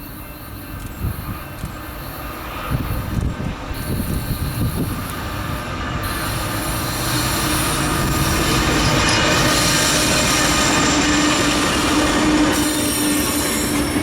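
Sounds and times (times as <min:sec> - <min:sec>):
freight train rumbling past: 0:00.0 - 0:14.0
steel wheels squealing on rail: 0:00.0 - 0:14.0.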